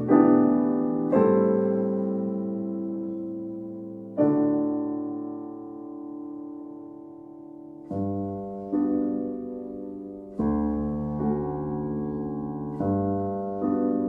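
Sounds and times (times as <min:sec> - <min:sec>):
soft solo piano chords: 0:00.0 - 0:14.0.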